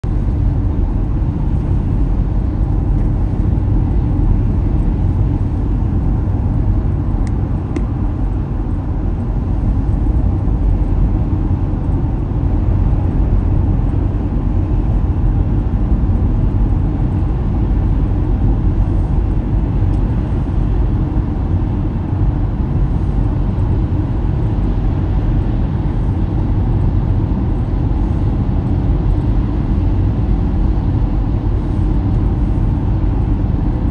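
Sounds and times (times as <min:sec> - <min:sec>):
road and engine noise in car: 0:00.0 - 0:33.9.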